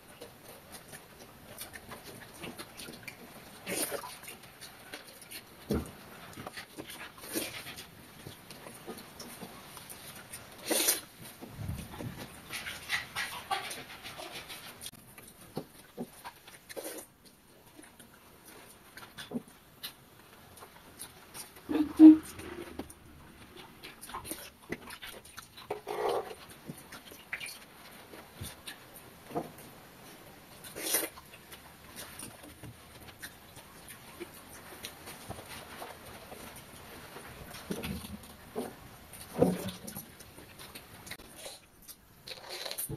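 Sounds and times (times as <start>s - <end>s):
wet chewing and lip-smacking: 0.1s - 36.9s, 37.5s - 42.9s.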